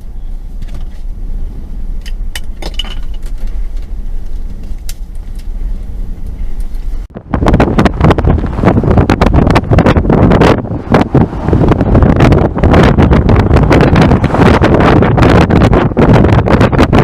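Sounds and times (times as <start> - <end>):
car engine rumbling: 0.0 - 17.0
wind buffeting microphone: 0.6 - 17.0.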